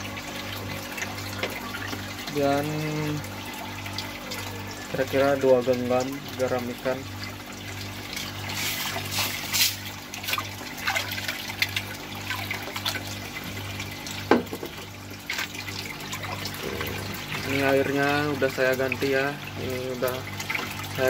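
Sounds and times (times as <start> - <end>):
low pulsing hum: 0.0 - 21.0
splashes and drips: 0.0 - 21.0
water sloshing and bubbling: 0.0 - 21.0.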